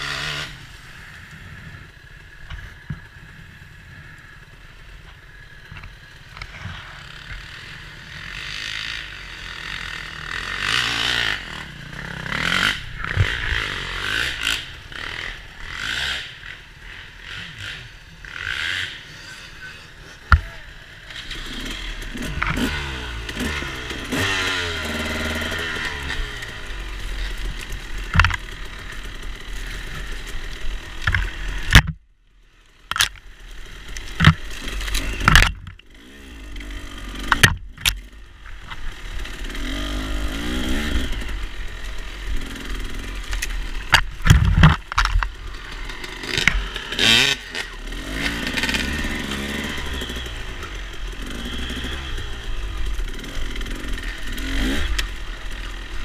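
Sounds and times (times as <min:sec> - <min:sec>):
dirt bike engines running: 0:00.0 - 0:56.0.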